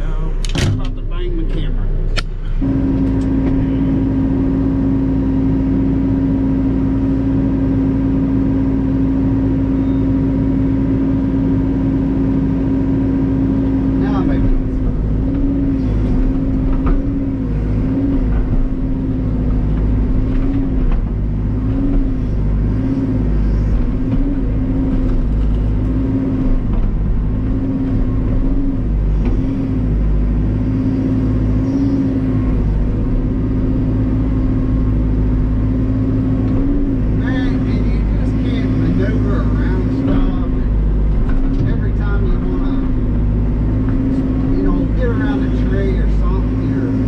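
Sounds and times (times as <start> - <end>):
backhoe diesel engine running: 0.0 - 47.0.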